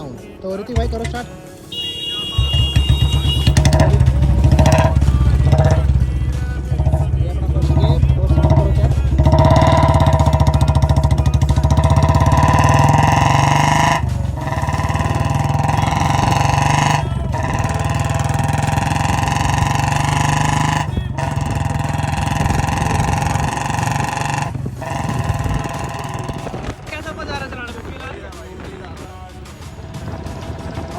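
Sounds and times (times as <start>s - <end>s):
motorcycle engine accelerating: 0.8s - 30.9s.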